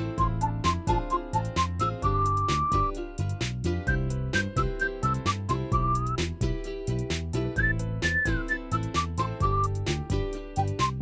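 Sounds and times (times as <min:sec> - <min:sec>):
whistled lead melody: 0:00.0 - 0:06.4, 0:07.4 - 0:11.0
bass line: 0:00.0 - 0:11.0
upbeat music with drum beat: 0:00.0 - 0:11.0.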